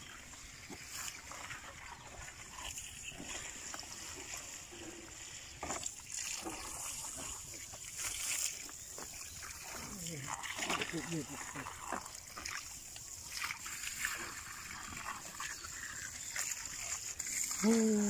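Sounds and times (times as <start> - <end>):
water from hose splashing on concrete: 0.0 - 18.0.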